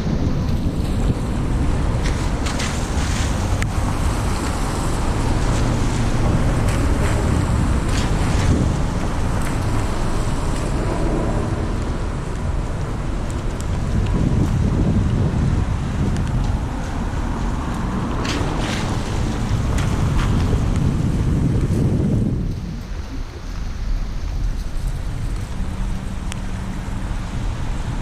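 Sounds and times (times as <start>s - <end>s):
road and tyre noise: 0.0s - 28.0s
wind buffeting microphone: 0.0s - 28.0s.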